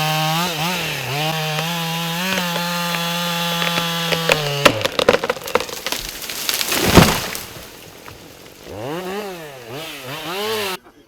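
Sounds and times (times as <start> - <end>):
chainsaw running: 0.0 - 10.8
tree section crashing down: 0.0 - 10.8
wood cracking and splintering: 0.0 - 10.8.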